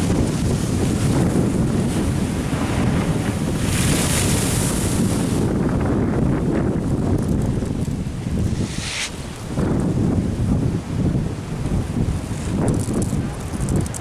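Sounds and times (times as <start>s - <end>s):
ocean waves against a sea wall: 0.0s - 14.0s
wind buffeting the microphone: 0.0s - 14.0s.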